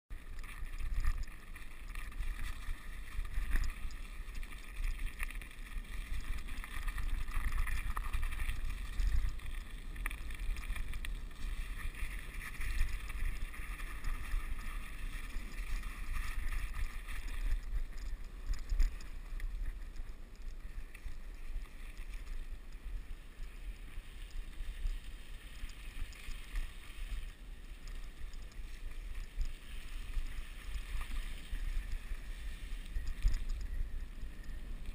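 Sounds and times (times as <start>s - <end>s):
wind noise on microphone: 0.1s - 34.9s
bike tyres hissing on snow: 0.2s - 19.2s, 19.8s - 34.9s.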